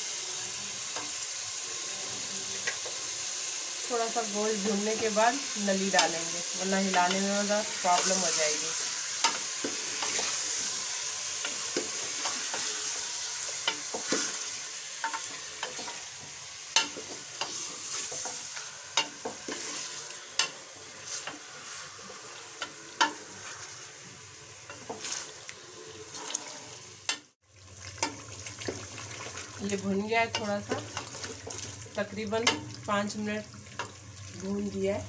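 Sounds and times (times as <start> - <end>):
meat sizzling in hot oil: 0.0 - 35.0.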